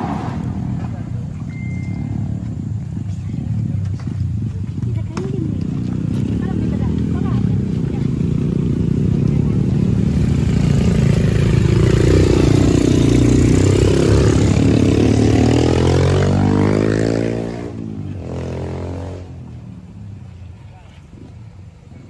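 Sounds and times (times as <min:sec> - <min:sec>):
motorcycle passing: 0:00.0 - 0:22.0.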